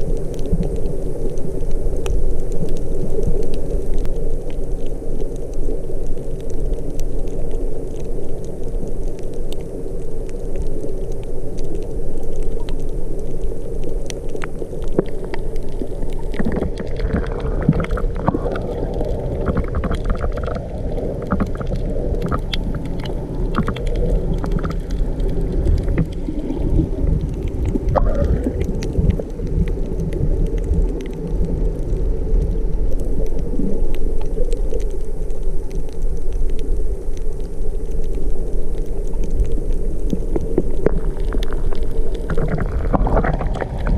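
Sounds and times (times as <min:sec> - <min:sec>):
crackling clicks: 0:00.0 - 0:43.9
underwater rumble: 0:00.0 - 0:43.9.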